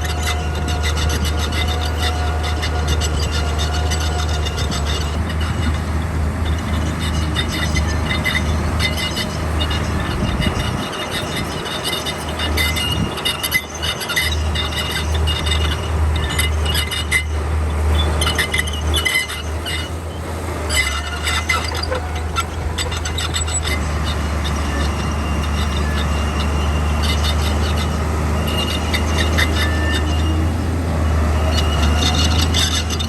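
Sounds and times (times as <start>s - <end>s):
low diesel engine drone: 0.0s - 33.0s
steel tracks clanking: 0.0s - 33.0s.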